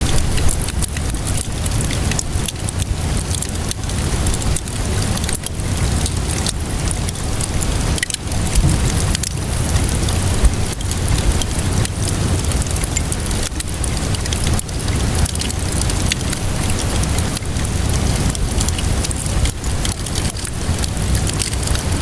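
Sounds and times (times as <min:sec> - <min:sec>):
constant low rumble: 0:00.0 - 0:22.0
steady rainfall: 0:00.0 - 0:22.0
wood fire crackling and popping: 0:00.0 - 0:22.0.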